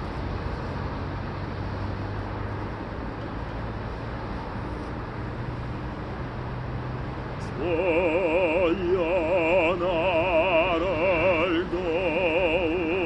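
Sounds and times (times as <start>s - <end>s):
low engine hum: 0.0s - 13.0s
street traffic noise: 0.0s - 13.0s.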